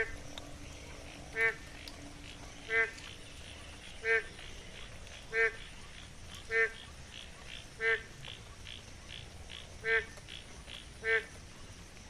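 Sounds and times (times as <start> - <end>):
frog nasal calls: 0.0 - 11.3
pulsing frog chorus: 0.0 - 12.0.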